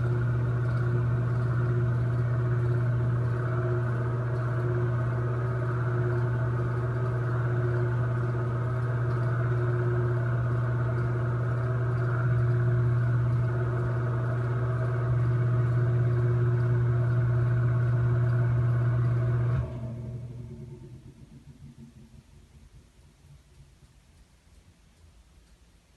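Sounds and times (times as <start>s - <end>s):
bathroom exhaust fan humming: 0.0s - 25.9s.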